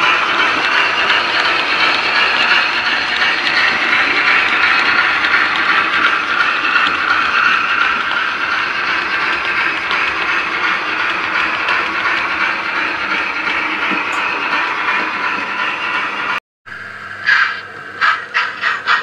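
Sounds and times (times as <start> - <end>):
model trains running: 0.0 - 19.0.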